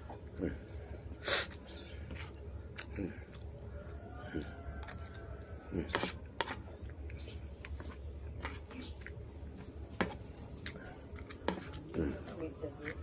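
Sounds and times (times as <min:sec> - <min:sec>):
soft chewing: 0:00.0 - 0:13.0
steady low hum: 0:00.0 - 0:13.0.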